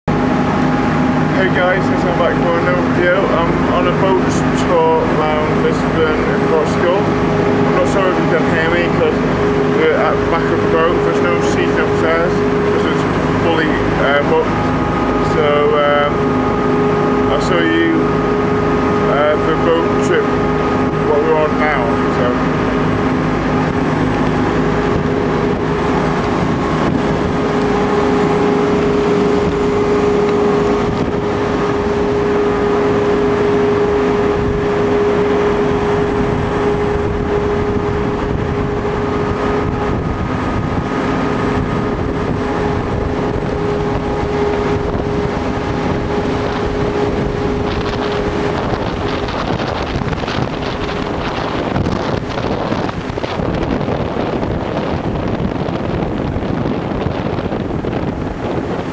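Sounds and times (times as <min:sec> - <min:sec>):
boat engine humming: 0:00.0 - 0:58.9
wind rushing over microphone: 0:00.0 - 0:58.9.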